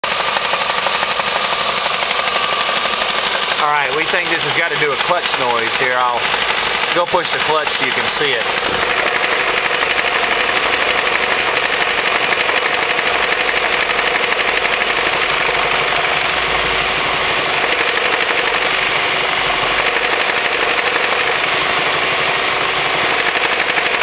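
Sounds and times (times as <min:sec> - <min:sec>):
car engine idling: 0:00.0 - 0:24.0
fast steady knocking: 0:00.0 - 0:24.0.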